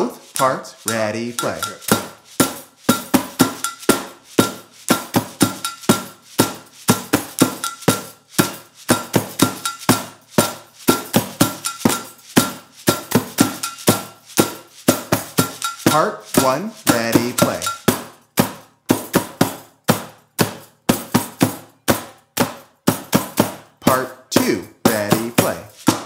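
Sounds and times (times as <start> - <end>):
plastic tub drum: 0.0 - 26.0
rhythm sticks clicking: 0.0 - 26.0
triangle and tambourine: 0.0 - 26.0
water bottle shaker: 0.0 - 26.0.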